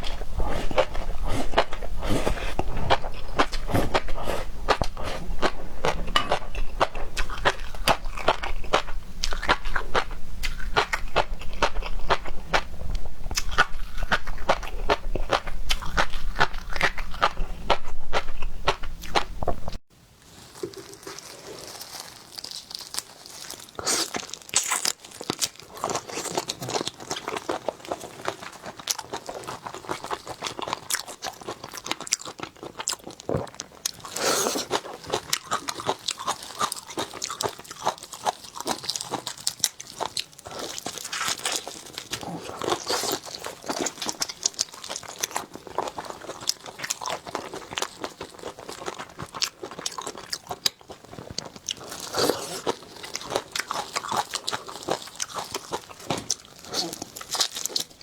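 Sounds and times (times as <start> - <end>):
wet chewing and crunching: 0.0 - 19.8, 20.4 - 58.0.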